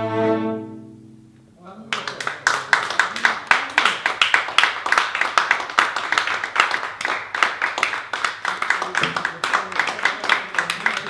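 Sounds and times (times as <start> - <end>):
small audience applauding: 1.9 - 11.0.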